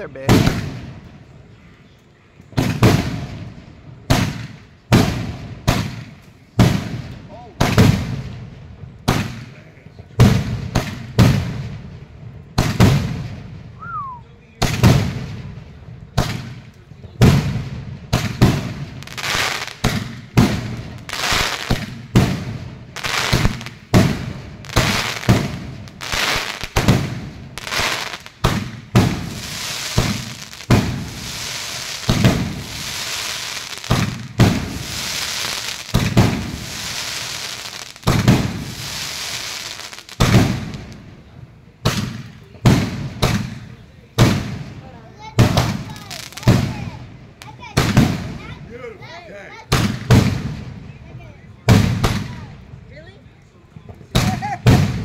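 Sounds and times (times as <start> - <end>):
firework crackling: 0.0 - 1.2, 2.5 - 53.2, 54.0 - 55.0
firework launch thumps and bursts: 0.2 - 1.0, 2.5 - 8.4, 9.0 - 9.6, 10.2 - 11.8, 12.6 - 13.6, 14.6 - 15.6, 16.2 - 41.1, 41.8 - 48.6, 49.7 - 50.8, 51.7 - 52.4.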